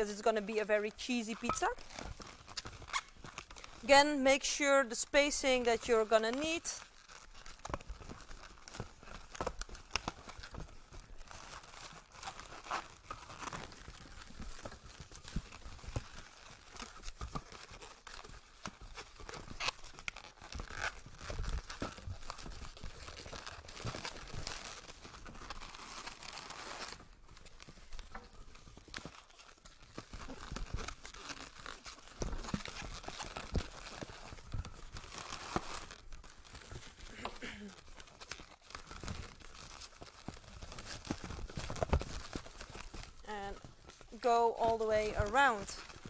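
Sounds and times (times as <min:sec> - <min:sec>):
balloons squeaking and rubbing: 0:00.0 - 0:46.0.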